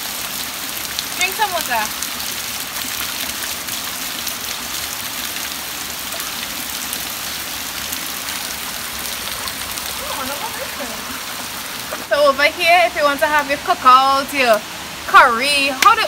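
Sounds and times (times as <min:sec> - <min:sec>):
shallow stream flowing over rocks: 0:00.0 - 0:16.0.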